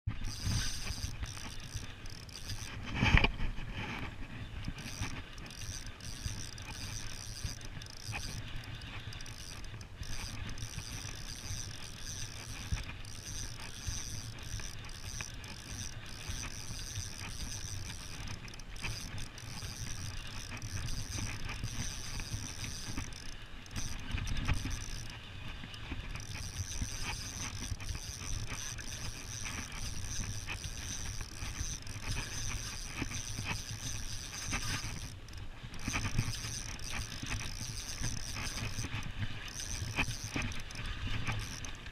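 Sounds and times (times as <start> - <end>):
spinning reel gears whirring: 0.1 - 41.9.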